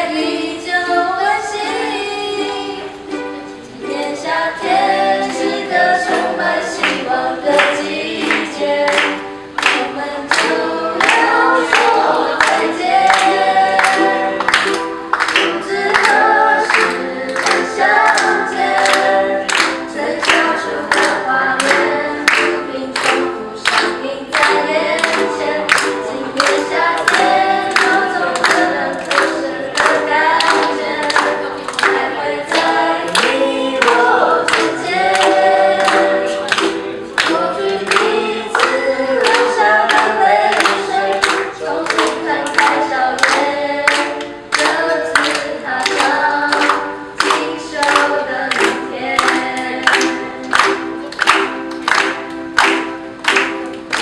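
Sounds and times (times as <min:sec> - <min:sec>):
group of voices singing: 0:00.0 - 0:54.0
strummed ukuleles: 0:00.0 - 0:54.0.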